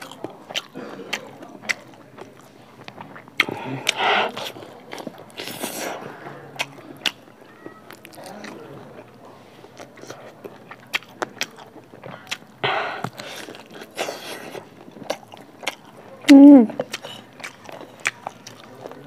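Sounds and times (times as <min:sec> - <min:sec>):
biting into meat: 0:00.0 - 0:06.0, 0:09.8 - 0:19.0
wet chewing mouth sounds: 0:00.0 - 0:19.0.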